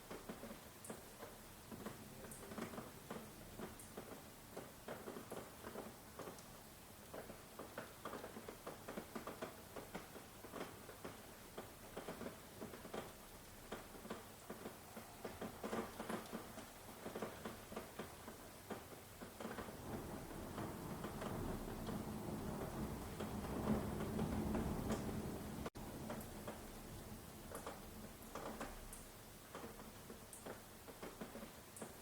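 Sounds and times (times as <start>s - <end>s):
rain drops pattering: 0.0s - 32.0s.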